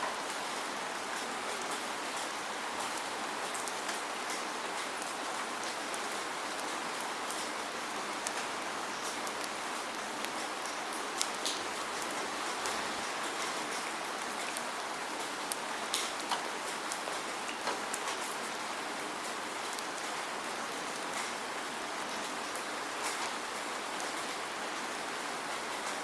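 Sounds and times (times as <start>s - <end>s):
raindrops ticking on a surface: 0.0s - 26.0s
steady rain hiss: 0.0s - 26.0s.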